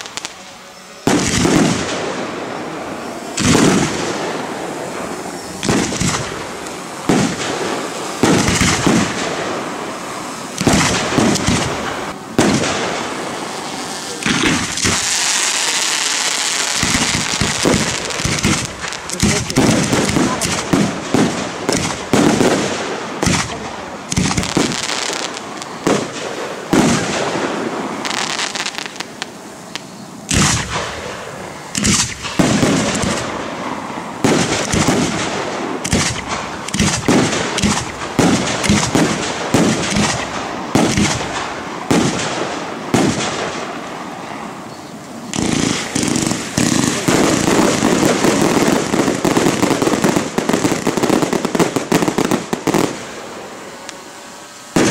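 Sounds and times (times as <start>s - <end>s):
fireworks bursting with bangs: 0.0s - 54.9s.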